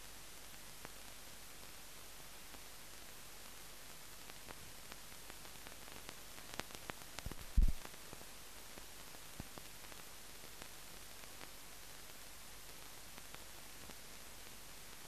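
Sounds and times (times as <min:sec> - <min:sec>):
film transfer hiss: 0:00.0 - 0:15.0.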